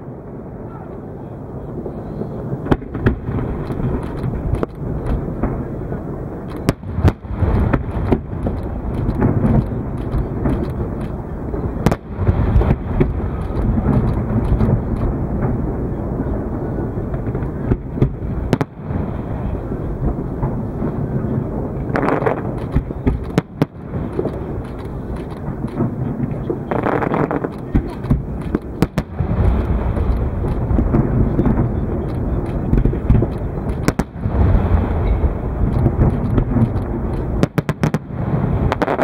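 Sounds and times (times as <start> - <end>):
fireworks booming: 0.0 - 39.0
sharp firework cracks: 2.6 - 15.9, 17.0 - 39.0.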